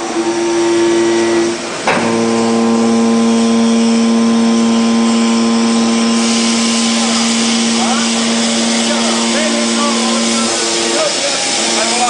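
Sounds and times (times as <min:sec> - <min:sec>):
hydraulic unit whine: 0:00.0 - 0:12.0
machine knock: 0:01.8 - 0:12.0.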